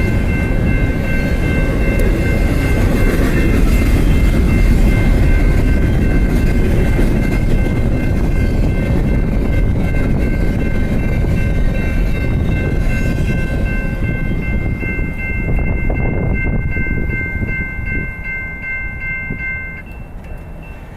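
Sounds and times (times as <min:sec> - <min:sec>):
freight train rumbling on track: 0:00.0 - 0:20.9
high ringing tones: 0:00.0 - 0:20.9.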